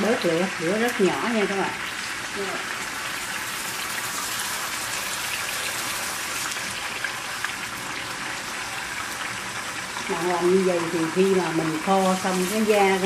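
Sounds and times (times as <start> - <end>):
pork sizzling in a wok: 0.0 - 13.0.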